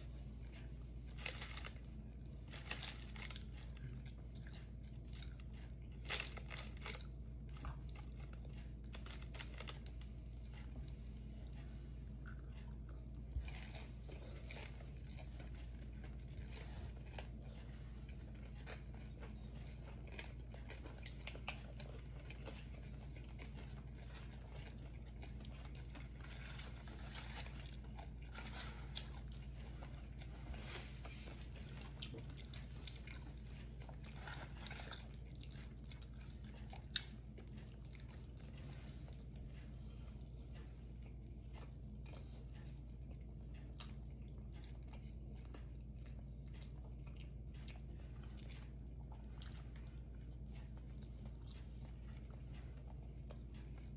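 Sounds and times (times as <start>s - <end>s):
low steady hum: 0.0s - 53.9s
person chewing crunchy food: 0.0s - 53.9s.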